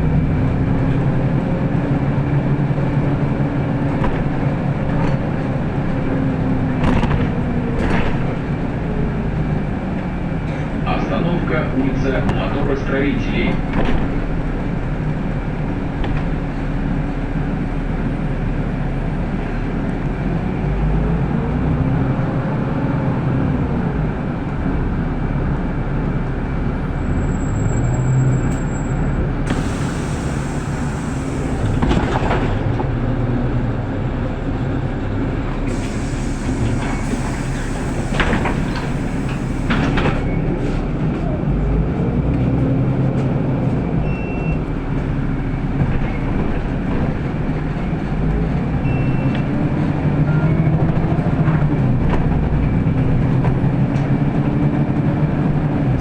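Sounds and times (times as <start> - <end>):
bus body rattles: 0.0 - 56.0
bus drivetrain and road noise: 0.0 - 56.0.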